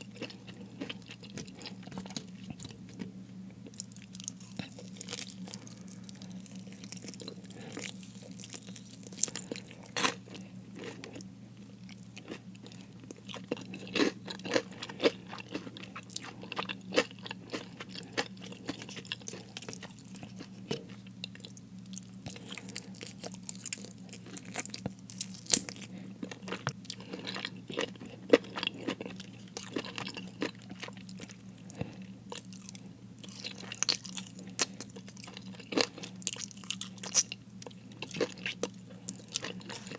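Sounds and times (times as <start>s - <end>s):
chewing crispy fried food: 0.0s - 39.9s
steady low hum: 0.0s - 39.9s.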